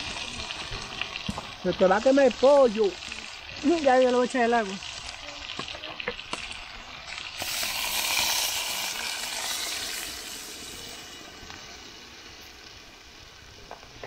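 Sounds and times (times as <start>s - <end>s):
water poured into hot pot: 0.0s - 13.4s
chicken sizzling in a pot: 0.0s - 14.0s.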